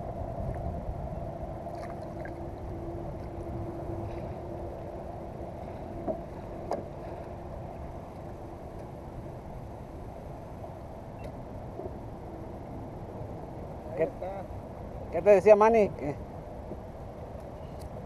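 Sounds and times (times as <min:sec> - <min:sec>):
wind noise: 0:00.0 - 0:15.4
faint steady hum: 0:00.0 - 0:18.0
water noise: 0:00.0 - 0:18.0.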